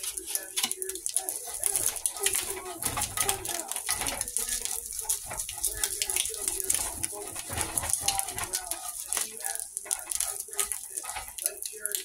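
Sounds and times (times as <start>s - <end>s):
bacon grease crackling and sizzling: 0.0s - 12.0s
spatula scraping skillet: 0.0s - 12.0s.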